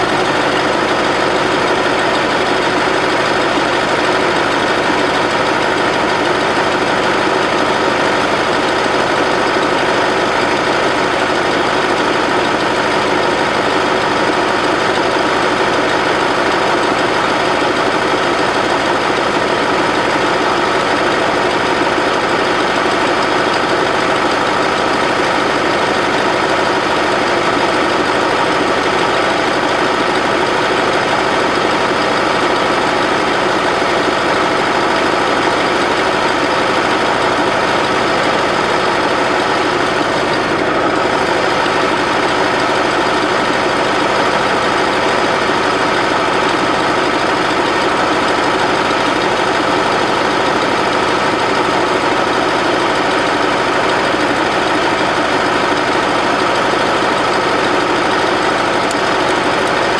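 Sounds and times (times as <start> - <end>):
loader engine running steadily: 0.0 - 59.9.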